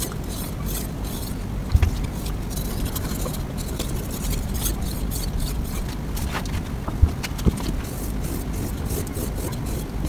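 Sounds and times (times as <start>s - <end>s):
knife scraping on whetstone: 0.0s - 6.5s, 7.6s - 10.0s.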